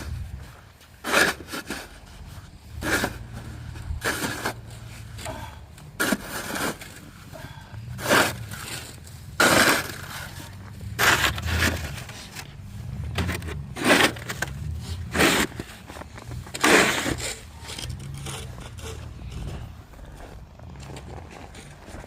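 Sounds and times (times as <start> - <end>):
low steady rumble: 1.8 - 22.0.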